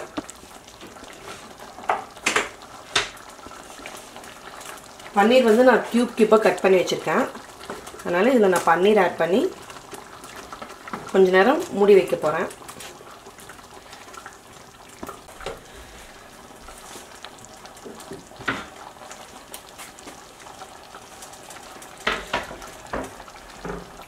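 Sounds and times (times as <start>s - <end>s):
curry simmering and bubbling: 0.0s - 24.0s.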